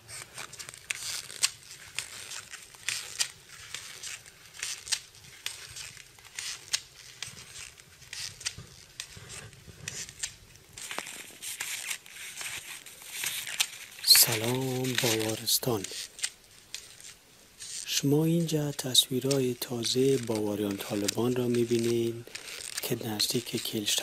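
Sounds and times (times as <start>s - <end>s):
footsteps crunching in snow: 0.0s - 24.0s
sharp snow crackles: 0.0s - 24.0s.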